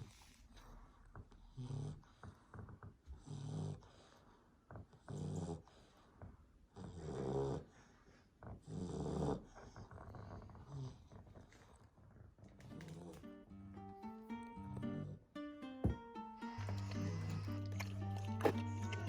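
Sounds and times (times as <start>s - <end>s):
puppy snoring: 0.0s - 13.3s, 16.4s - 19.0s.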